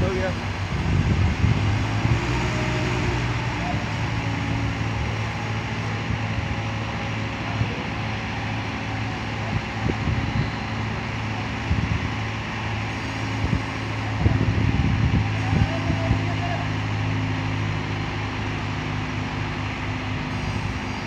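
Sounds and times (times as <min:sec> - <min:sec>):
heavy machinery diesel engines droning: 0:00.0 - 0:21.0.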